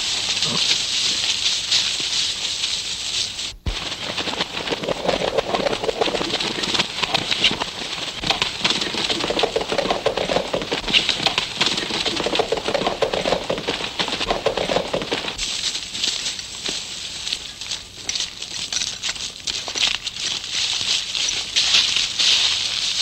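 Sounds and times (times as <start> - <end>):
horses galloping hoofbeats: 0.0 - 23.0.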